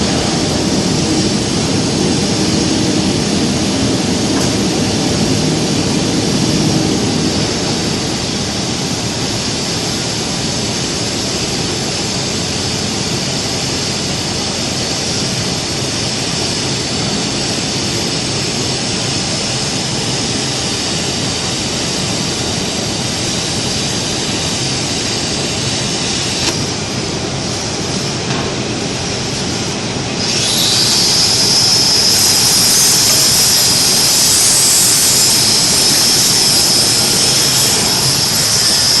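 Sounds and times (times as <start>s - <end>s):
high-pitched whine: 0.0s - 39.0s
workshop machinery noise: 0.0s - 39.0s.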